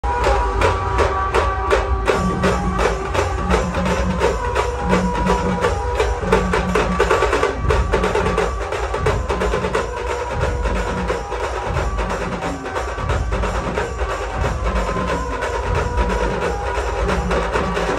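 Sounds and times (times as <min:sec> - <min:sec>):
fast clicky percussion beat: 0:00.0 - 0:17.9.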